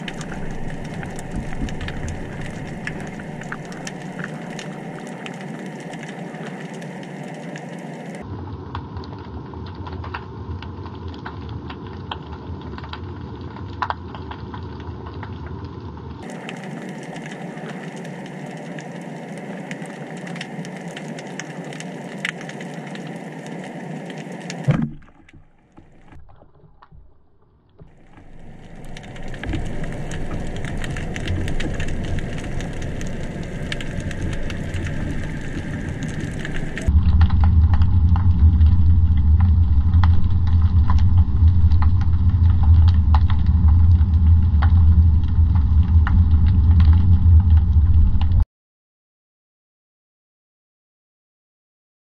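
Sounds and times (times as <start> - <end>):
low rumble with crackling: 0.0 - 48.4.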